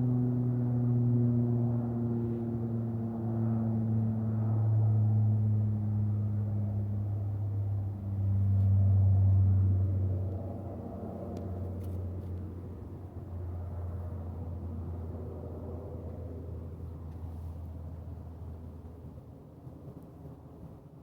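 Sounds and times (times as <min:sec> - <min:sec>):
propeller aircraft drone: 0:00.0 - 0:21.0.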